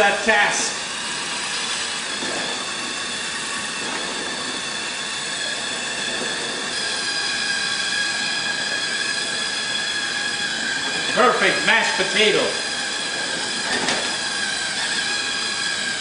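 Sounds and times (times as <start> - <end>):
immersion blender motor whine: 0.0 - 16.0.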